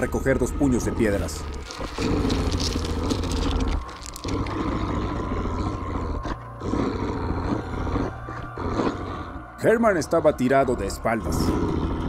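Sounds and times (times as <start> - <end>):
creature growling: 0.0 - 12.0.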